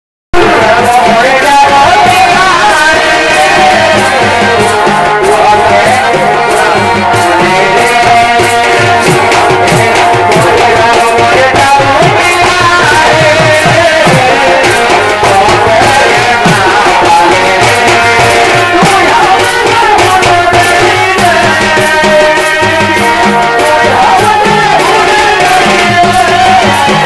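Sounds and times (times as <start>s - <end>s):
drum beating steady rhythm: 0.3s - 27.0s.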